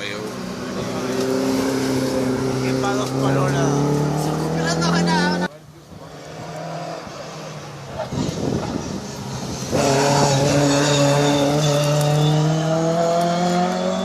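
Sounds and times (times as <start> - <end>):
rally car engine: 0.0 - 14.0
road noise: 0.0 - 14.0.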